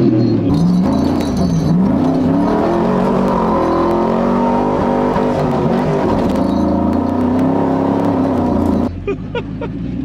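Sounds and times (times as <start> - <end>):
pickup truck engine revving: 0.5 - 8.9.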